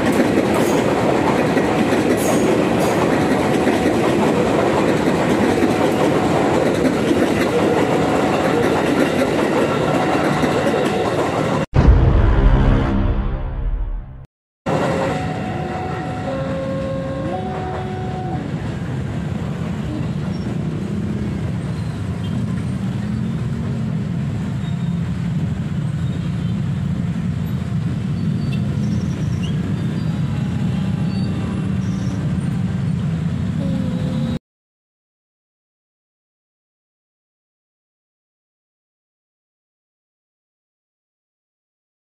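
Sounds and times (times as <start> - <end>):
passing electric train rumble: 0.0 - 34.4.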